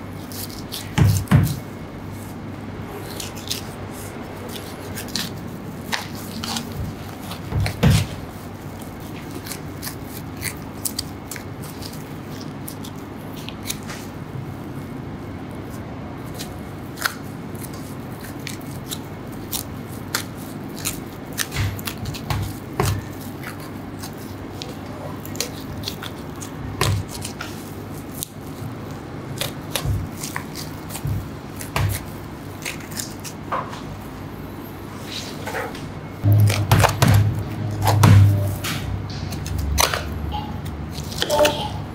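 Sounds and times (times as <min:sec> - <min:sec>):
low background hum: 0:00.0 - 0:41.9.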